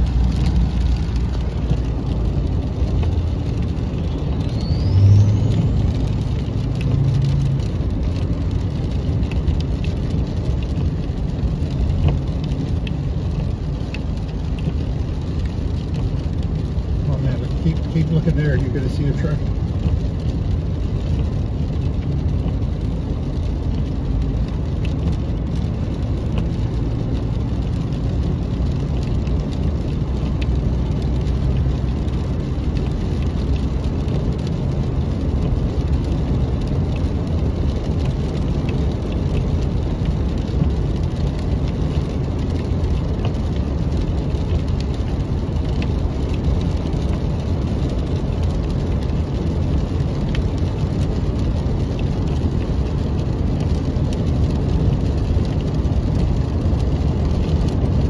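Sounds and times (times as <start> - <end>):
car driving on wet road: 0.0 - 58.0.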